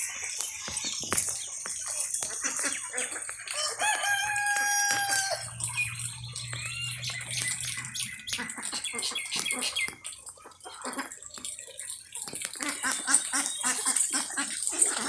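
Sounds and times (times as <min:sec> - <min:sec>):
chickens and ducks clucking: 0:00.0 - 0:15.0.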